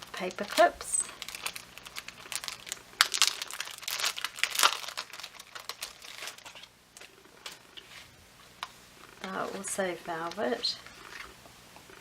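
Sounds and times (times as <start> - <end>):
crinkly packaging crackling: 0.0 - 11.4.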